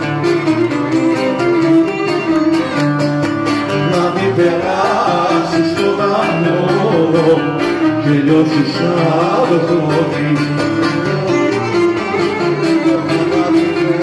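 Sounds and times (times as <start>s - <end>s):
guitar playing: 0.0s - 14.0s
oud playing: 0.0s - 14.0s.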